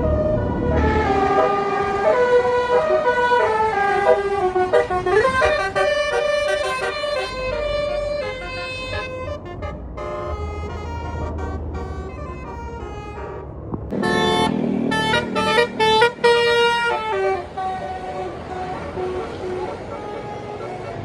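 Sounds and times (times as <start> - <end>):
bus engine rumbling: 0.0 - 21.0
bus horn playing a melody: 0.0 - 21.0.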